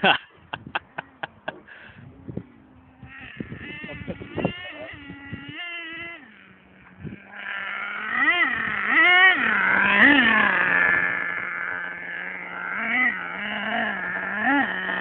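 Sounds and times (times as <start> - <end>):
rc truck engine revving: 0.8 - 15.0.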